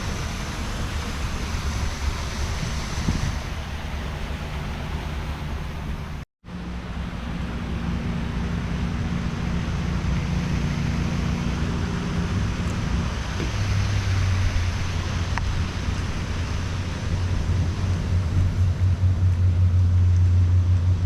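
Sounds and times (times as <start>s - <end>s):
vehicle engine hum: 0.0s - 21.0s
wind and road noise: 0.0s - 21.0s.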